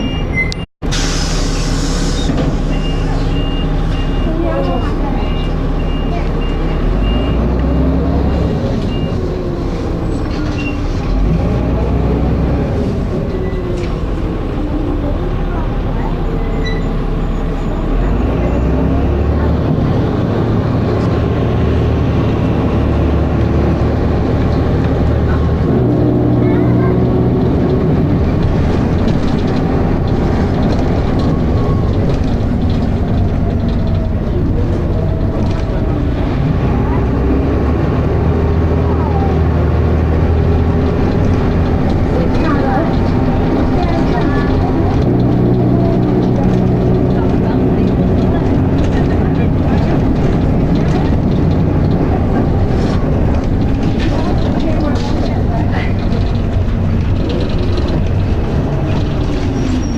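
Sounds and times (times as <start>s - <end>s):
bus diesel engine revving: 0.0s - 59.9s.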